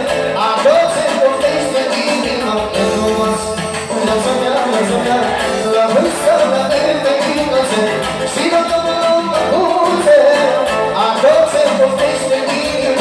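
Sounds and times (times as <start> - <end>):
accordion: 0.0 - 13.0
man singing into microphone: 0.0 - 13.0.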